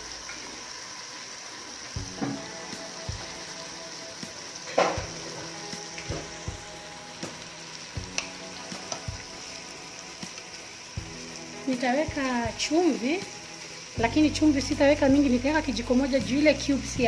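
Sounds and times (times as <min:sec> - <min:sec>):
oil and spices sizzling in a pot: 0:00.0 - 0:17.0.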